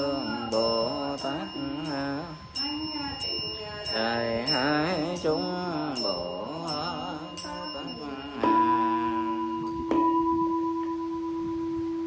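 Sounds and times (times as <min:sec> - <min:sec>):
person chanting: 0:00.0 - 0:10.2
bowl bell ringing: 0:00.0 - 0:12.0
small bell strikes: 0:00.0 - 0:12.0.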